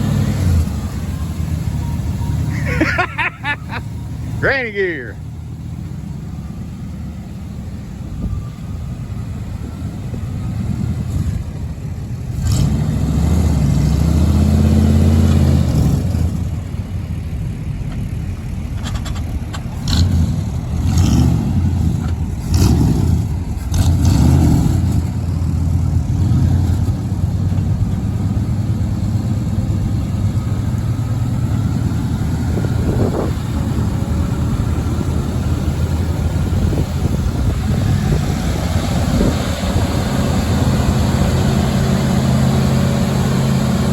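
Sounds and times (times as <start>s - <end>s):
pickup truck engine revving: 0.0s - 17.1s, 19.6s - 43.9s.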